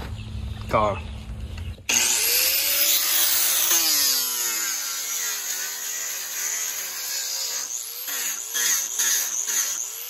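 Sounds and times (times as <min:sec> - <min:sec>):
angle grinder grinding wood: 0:01.9 - 0:10.0.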